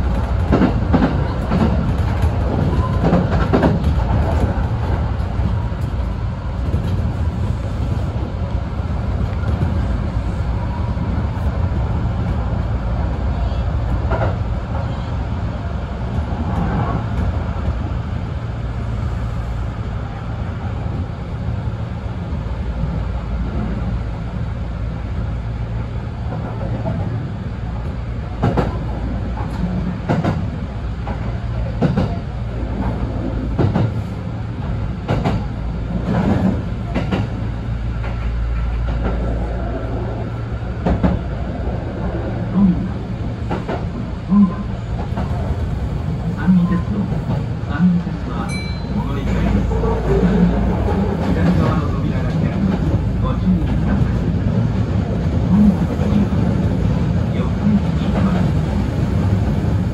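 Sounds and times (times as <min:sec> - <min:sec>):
train wheels and motors rumbling: 0:00.0 - 0:59.9.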